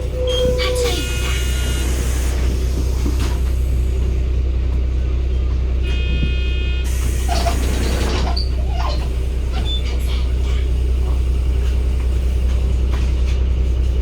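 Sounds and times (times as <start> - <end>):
bus diesel engine rumble: 0.0 - 14.0.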